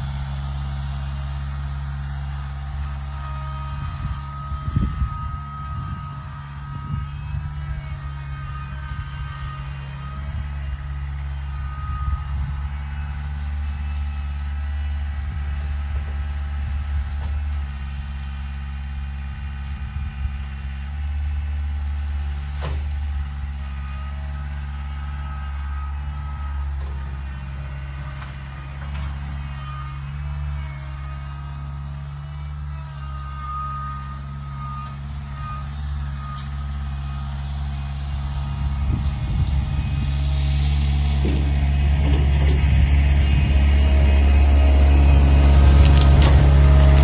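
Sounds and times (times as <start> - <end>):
skid steer engine running: 0.0 - 47.0.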